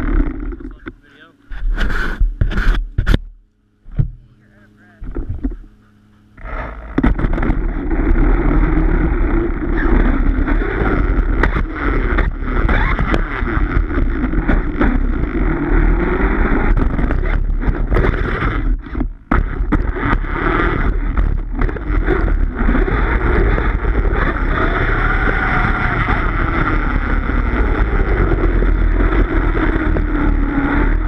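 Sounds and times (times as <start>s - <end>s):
rc truck rumbling over grass: 0.0s - 3.2s, 6.4s - 31.0s.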